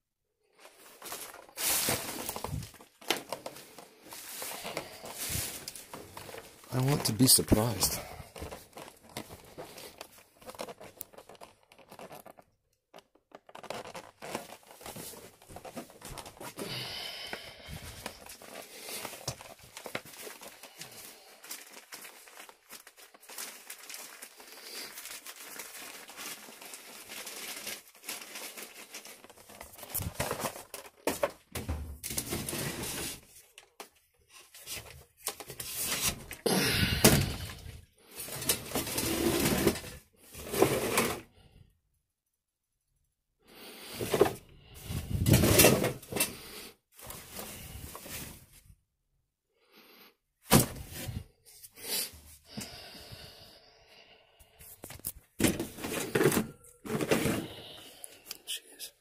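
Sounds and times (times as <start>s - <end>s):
trash rustling and crinkling: 0.5s - 41.3s, 43.9s - 46.4s, 47.0s - 48.7s, 54.7s - 57.9s.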